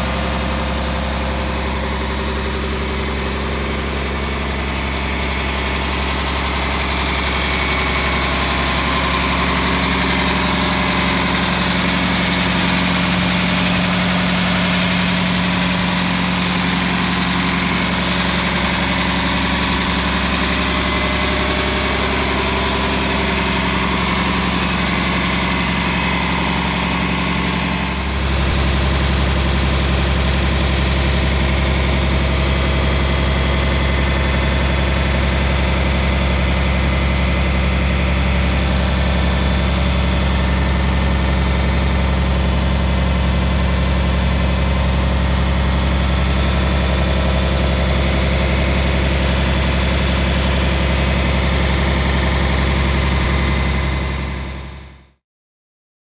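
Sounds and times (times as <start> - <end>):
diesel tractor engine idling: 0.0 - 55.1.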